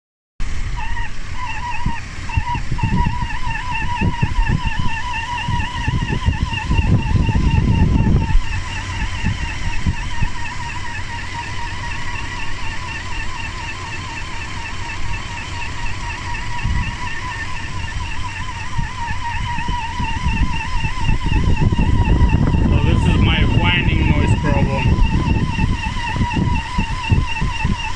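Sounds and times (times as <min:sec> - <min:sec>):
high engine whine: 0:00.4 - 0:27.9
irregular low rumbling: 0:00.4 - 0:27.9.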